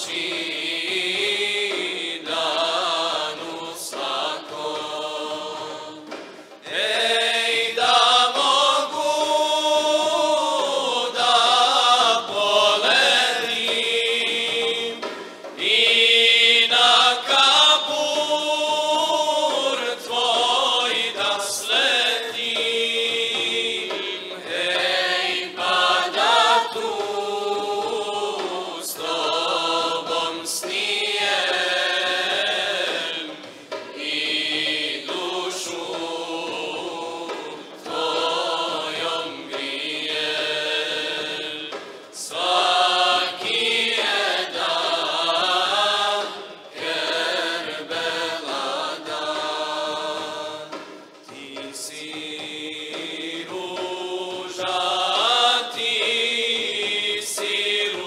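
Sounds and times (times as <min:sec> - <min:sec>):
men singing a devotional hymn: 0:00.0 - 0:58.0.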